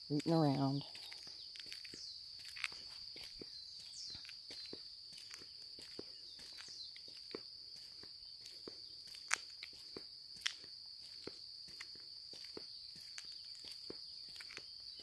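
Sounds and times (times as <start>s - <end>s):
footsteps walking: 0.1s - 15.0s.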